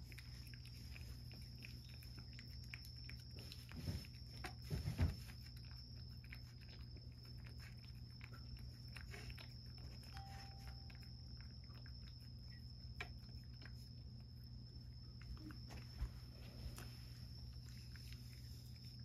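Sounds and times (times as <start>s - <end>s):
cat licking wet food: 0.0s - 19.0s.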